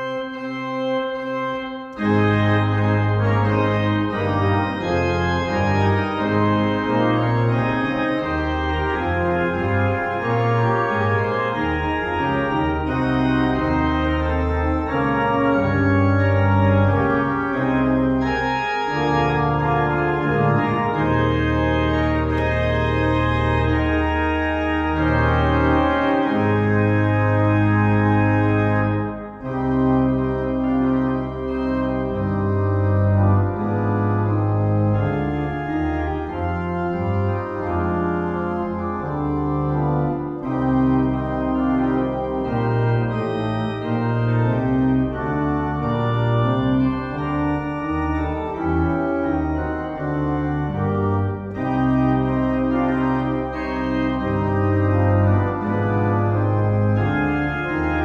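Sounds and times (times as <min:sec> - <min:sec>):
church organ playing: 0:00.0 - 0:58.0.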